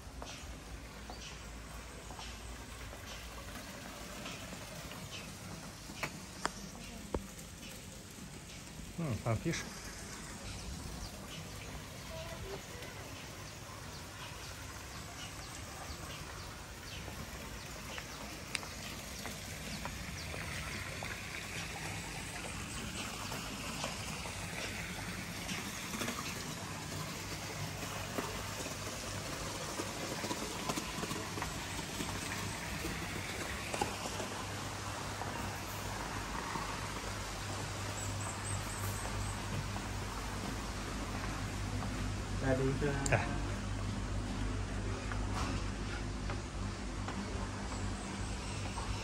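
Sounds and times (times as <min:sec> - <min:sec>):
steady background hiss: 0:00.0 - 0:45.1.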